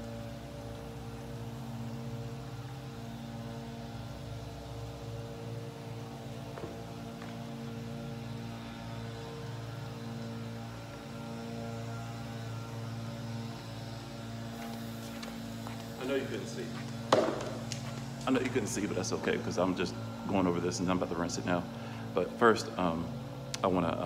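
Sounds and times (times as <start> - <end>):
electric motor hum: 0.0 - 24.0.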